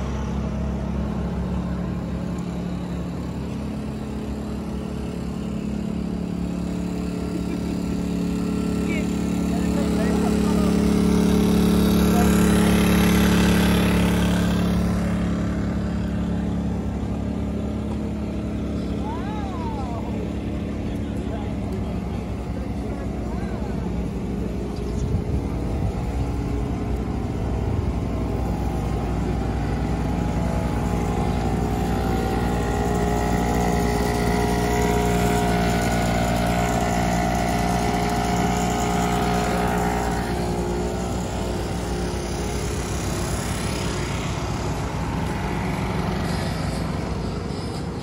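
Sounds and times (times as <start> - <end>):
large engine droning: 0.0 - 48.0.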